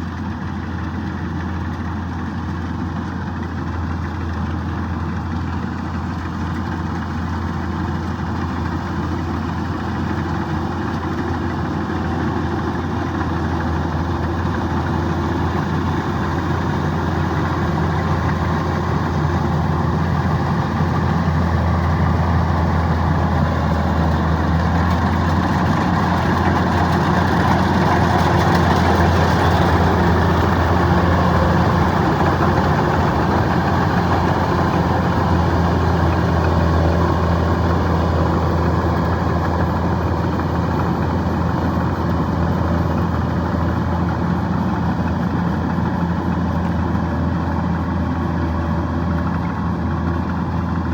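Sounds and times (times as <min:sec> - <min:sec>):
combine harvester engine humming: 0:00.0 - 0:50.9.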